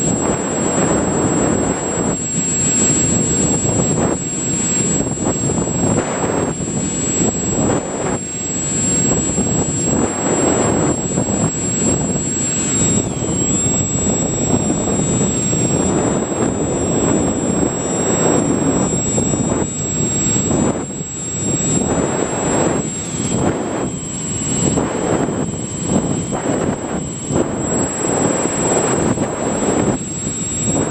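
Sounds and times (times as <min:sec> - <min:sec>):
air rushing over microphone: 0:00.0 - 0:30.9
electric motor and propeller whine: 0:00.0 - 0:30.9.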